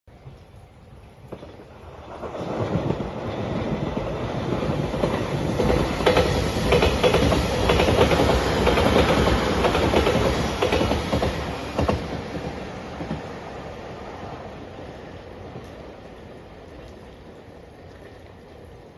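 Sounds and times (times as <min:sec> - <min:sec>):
electric train passing: 0:00.3 - 0:18.9.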